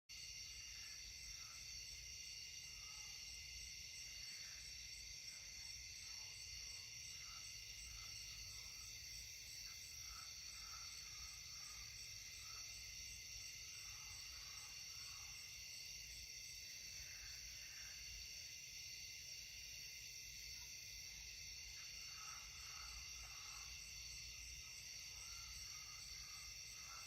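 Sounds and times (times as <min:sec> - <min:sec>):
crickets trilling: 0:00.1 - 0:27.0
faint low-pitched insect calls: 0:00.1 - 0:27.0.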